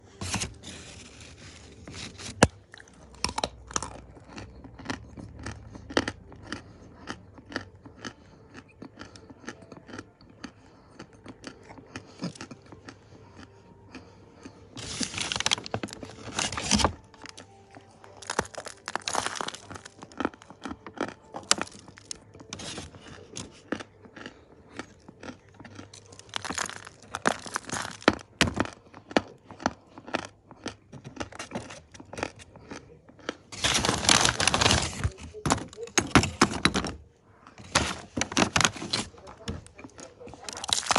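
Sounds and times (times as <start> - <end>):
dry clay crunching while chewed: 0.0 - 40.9.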